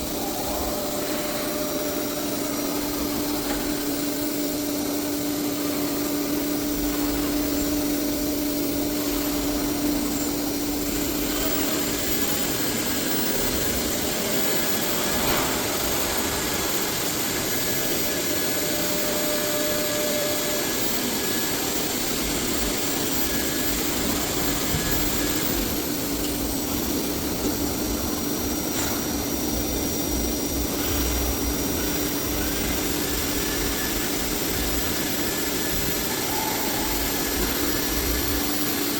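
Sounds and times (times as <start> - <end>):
cnc router running: 0.0 - 38.9.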